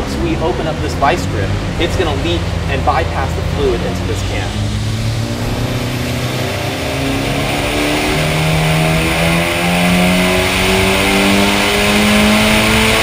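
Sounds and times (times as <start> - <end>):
turbocharged engine revving: 0.0 - 13.0.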